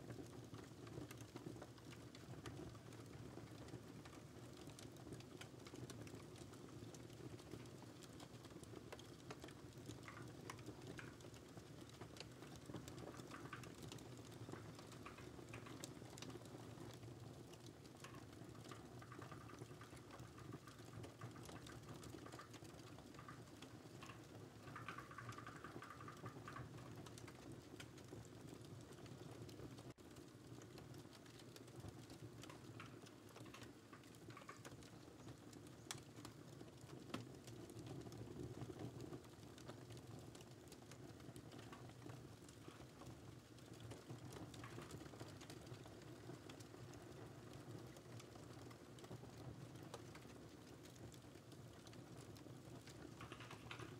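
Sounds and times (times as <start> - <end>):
crackling fireplace: 0.0 - 53.9.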